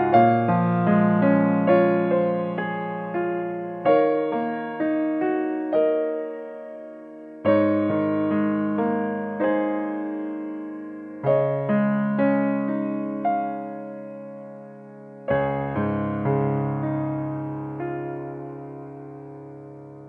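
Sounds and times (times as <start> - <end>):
slow gentle solo piano: 0.0 - 20.0.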